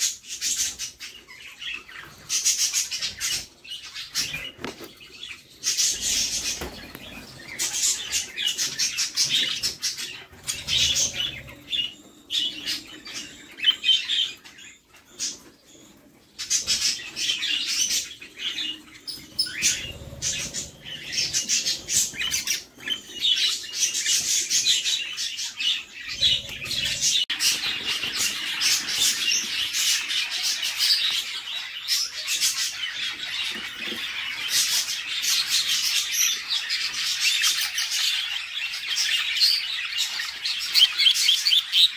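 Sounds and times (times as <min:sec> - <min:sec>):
bird chicks chirping: 0:00.0 - 0:41.9.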